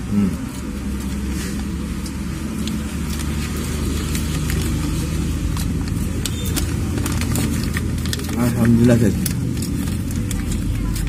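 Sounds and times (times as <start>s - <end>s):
vehicle engine rumbling: 0.0s - 11.0s
paper wrapper rustling: 0.4s - 11.0s.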